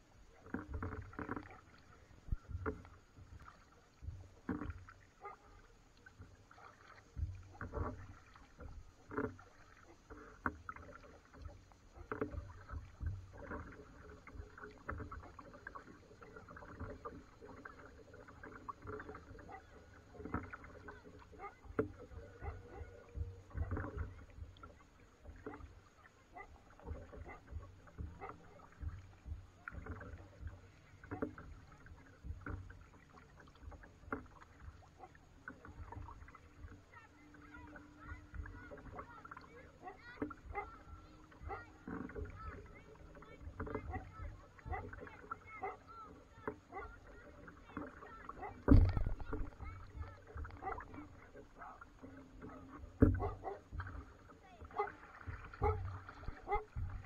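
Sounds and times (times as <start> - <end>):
paddle splashing in water: 0.0 - 57.0
low thud of paddle strokes: 6.3 - 57.0.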